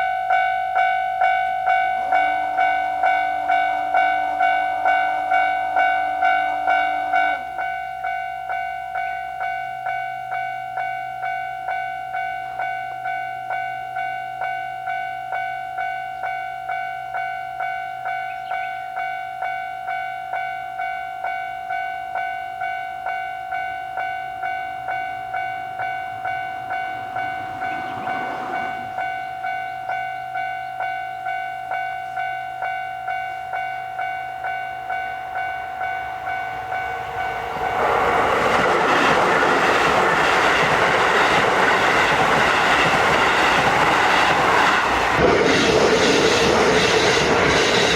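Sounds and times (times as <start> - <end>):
level crossing warning bell: 0.0 - 45.2
electric train passing: 0.0 - 47.9.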